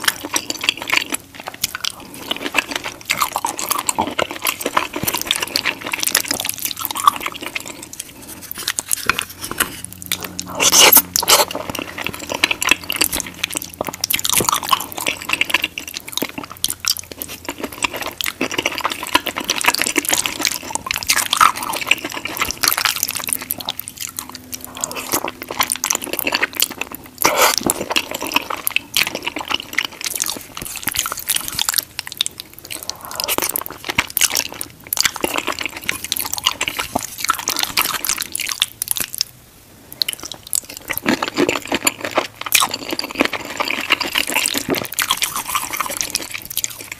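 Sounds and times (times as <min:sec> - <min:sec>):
wet chewing and slurping: 0:00.0 - 0:39.3, 0:39.9 - 0:46.9.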